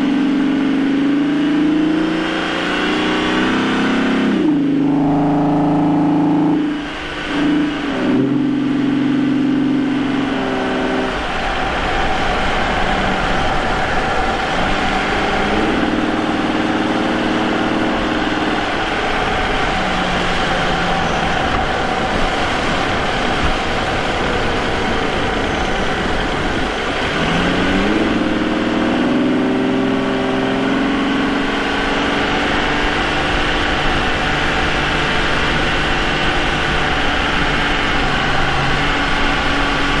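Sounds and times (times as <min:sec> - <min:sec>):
car engine while driving: 0:00.0 - 0:40.0.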